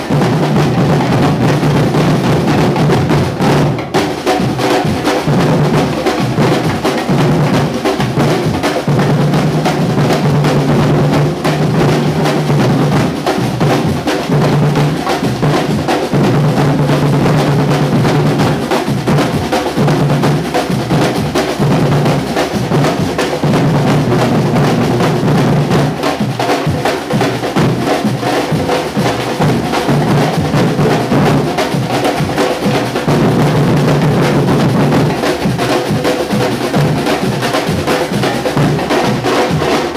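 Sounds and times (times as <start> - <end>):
percussion ensemble drumming: 0.0 - 39.9.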